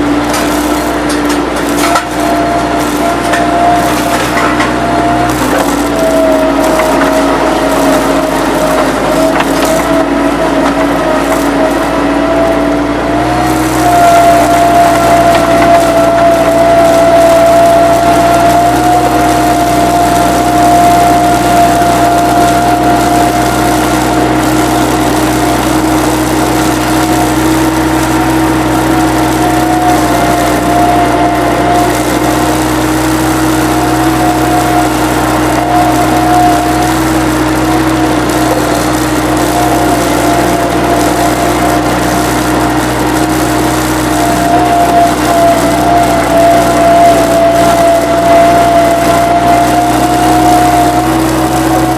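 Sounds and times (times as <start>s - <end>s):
machinery engine running: 0.0s - 51.9s
wavering whine: 0.0s - 51.9s.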